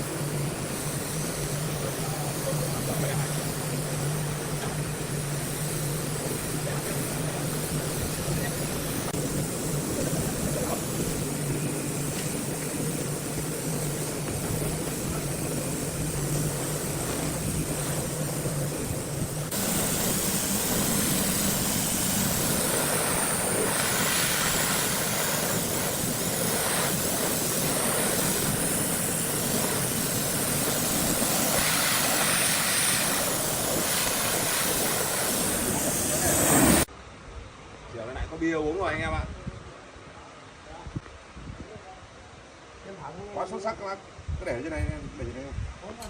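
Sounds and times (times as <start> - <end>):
heavy machinery humming: 0.0 - 36.9
hissy machine noise: 0.0 - 36.9.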